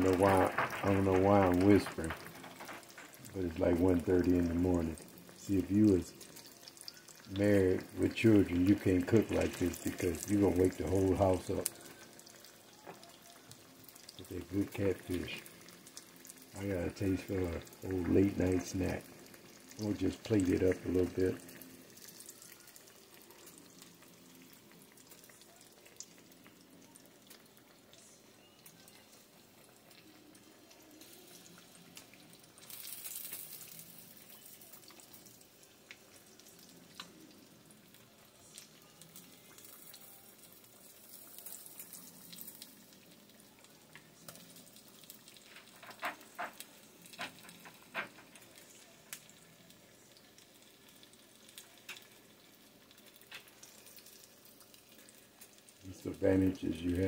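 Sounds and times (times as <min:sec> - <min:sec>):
fish frying in oil sizzle: 0:00.0 - 0:57.0.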